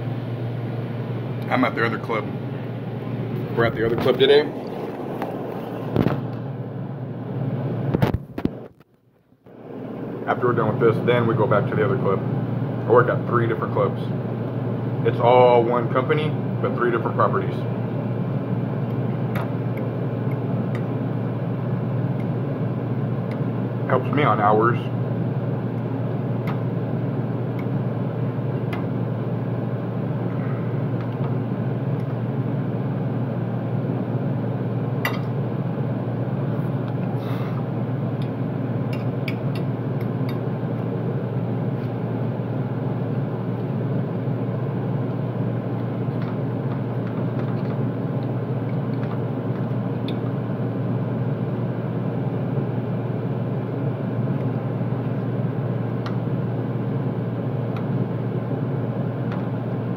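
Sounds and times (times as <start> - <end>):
kitchen equipment humming: 0.0 - 8.8, 9.5 - 59.9.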